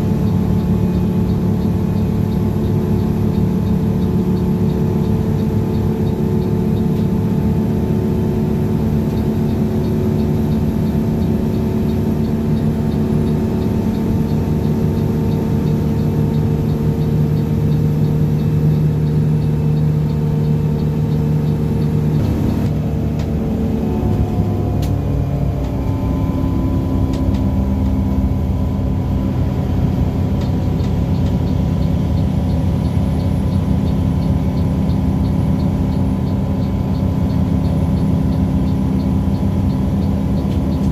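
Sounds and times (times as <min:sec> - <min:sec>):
bus diesel engine running: 0:00.0 - 0:40.9
faint regular ticking: 0:00.1 - 0:23.4, 0:27.0 - 0:40.9.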